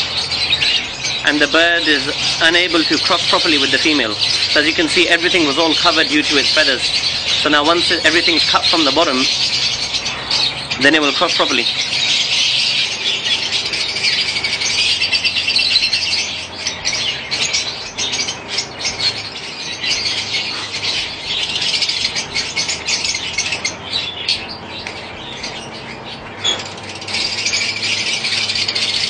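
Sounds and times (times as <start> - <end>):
budgerigars chattering and squawking: 0.0 - 29.0.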